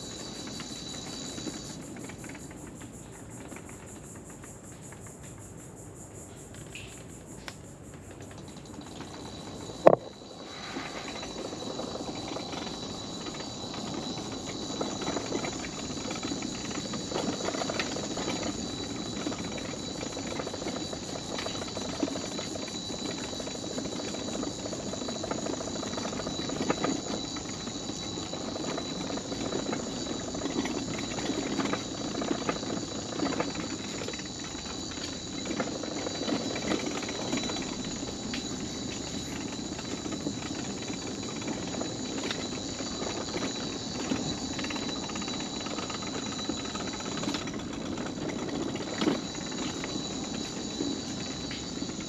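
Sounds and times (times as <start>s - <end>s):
wheels rumbling over wooden planks: 0.0s - 5.4s, 7.8s - 52.0s.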